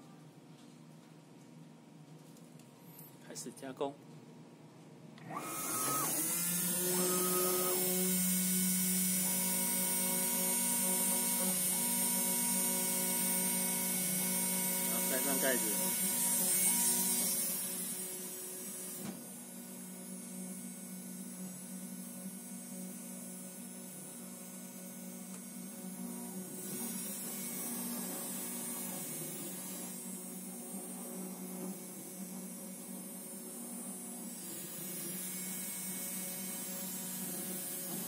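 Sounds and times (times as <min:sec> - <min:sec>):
muffled engraving machine hum: 0:05.3 - 0:38.0.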